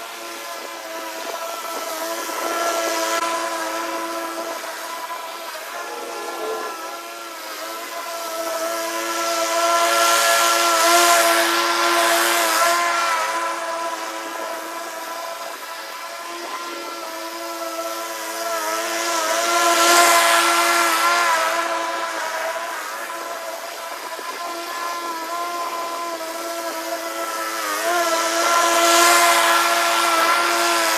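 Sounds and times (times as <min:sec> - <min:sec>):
lawn mower cutting grass: 0:00.0 - 0:30.9.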